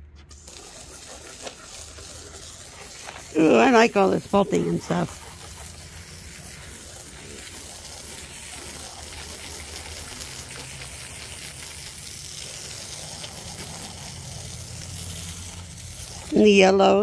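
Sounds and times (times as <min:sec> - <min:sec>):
sawmill sawing a log: 0:00.3 - 0:16.5.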